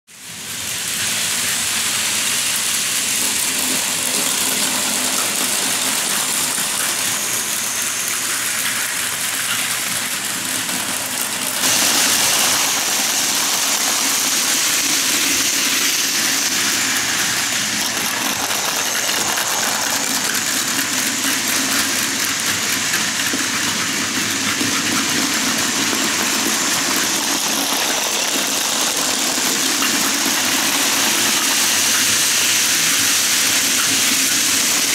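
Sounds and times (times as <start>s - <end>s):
toy train motors whirring: 0.1s - 34.9s.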